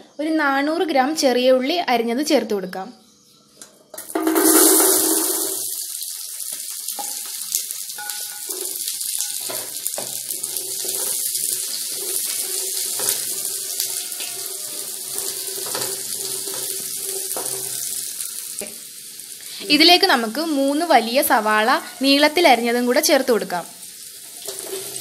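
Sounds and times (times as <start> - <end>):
shallots sizzling in oil: 4.0 - 25.0.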